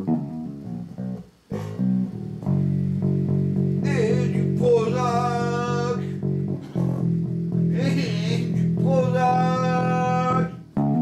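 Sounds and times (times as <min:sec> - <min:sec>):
guitar plucked low notes: 0:00.0 - 0:11.0.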